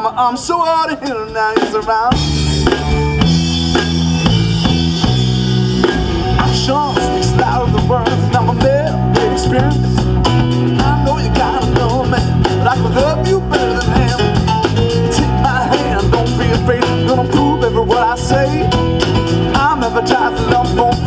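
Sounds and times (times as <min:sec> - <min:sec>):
drum beat: 0:01.1 - 0:21.0
bass line: 0:02.0 - 0:21.0
bending sliding lead guitar notes: 0:02.1 - 0:21.0.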